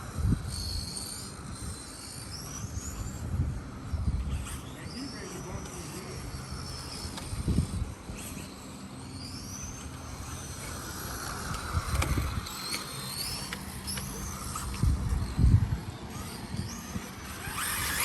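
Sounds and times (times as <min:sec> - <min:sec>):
rc car motors whining: 0:00.0 - 0:18.0.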